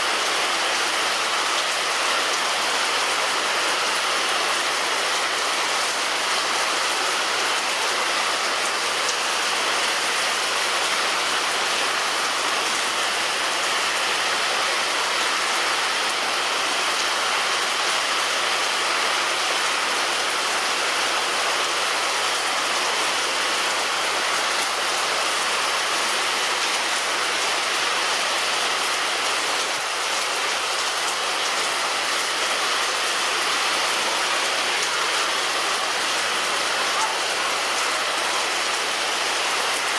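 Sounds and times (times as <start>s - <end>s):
rain patter on a roof: 0.0s - 39.9s.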